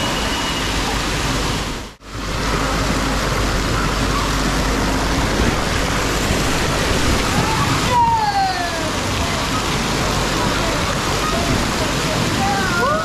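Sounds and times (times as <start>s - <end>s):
water splashing and churning: 0.0s - 13.0s.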